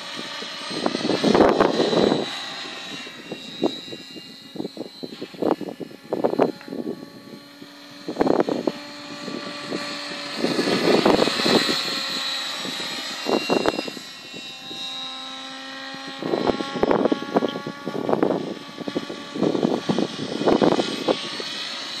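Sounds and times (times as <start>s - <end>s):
model helicopter rotor whine: 0.0s - 22.0s.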